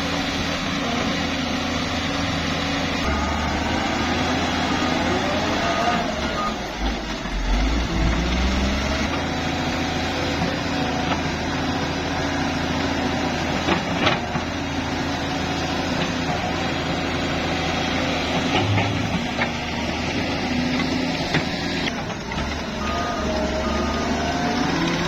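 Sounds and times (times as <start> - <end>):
diesel machinery engine running: 0.0 - 25.0.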